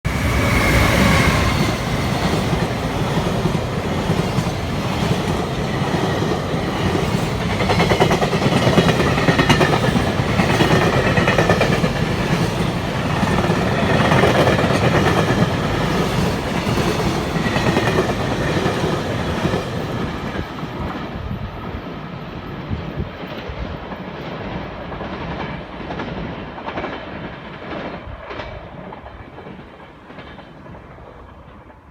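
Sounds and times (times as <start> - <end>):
freight train rumbling: 0.0 - 31.9.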